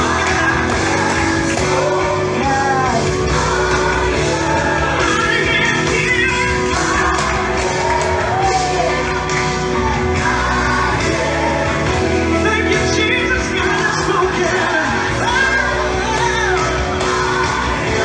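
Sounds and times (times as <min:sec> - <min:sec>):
band playing gospel music: 0:00.0 - 0:18.0
voices singing: 0:00.0 - 0:18.0.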